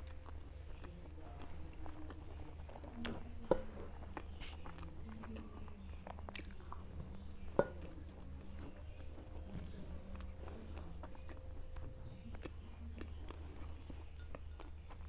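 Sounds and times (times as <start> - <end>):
chewing and mouth sounds: 0.0 - 15.0
steady low hum: 0.0 - 15.0.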